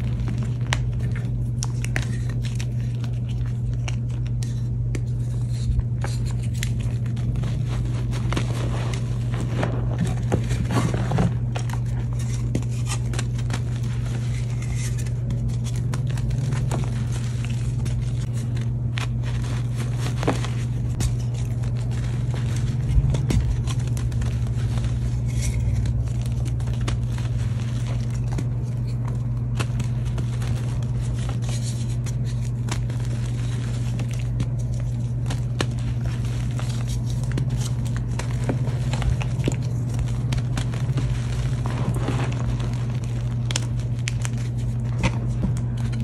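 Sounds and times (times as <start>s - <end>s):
hands crumbling chalk: 0.0s - 46.0s
low hum: 0.0s - 46.0s.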